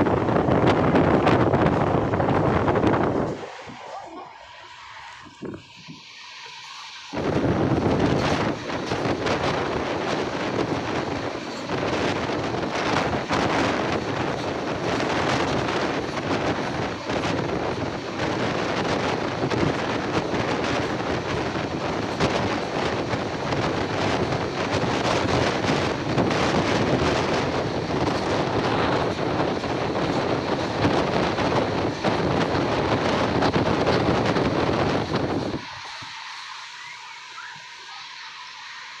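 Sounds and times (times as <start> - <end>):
wind buffeting microphone: 0.0 - 38.2
train running at speed: 0.0 - 39.0.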